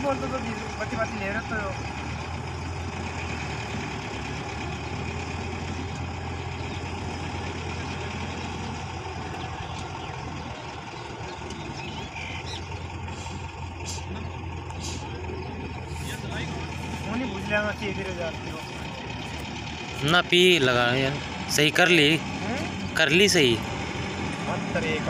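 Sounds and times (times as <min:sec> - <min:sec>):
distant truck engine idling: 0:00.0 - 0:25.0.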